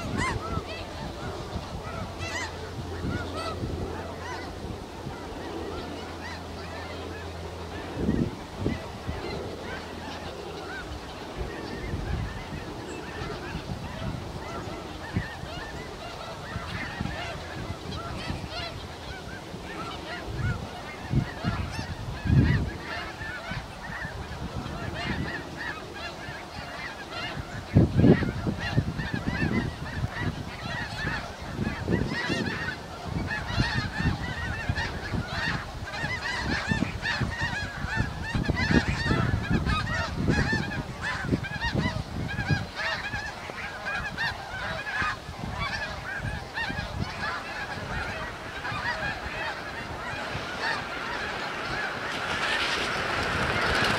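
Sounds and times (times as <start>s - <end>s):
geese honking: 0.0s - 53.9s.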